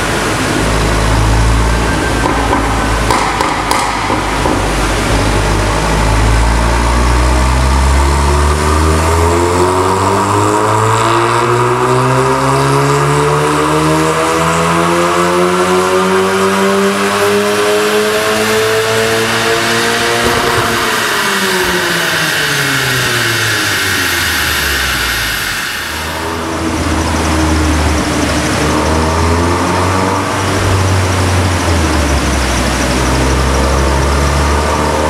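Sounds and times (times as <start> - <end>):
car engine revving on dyno: 0.0 - 35.0.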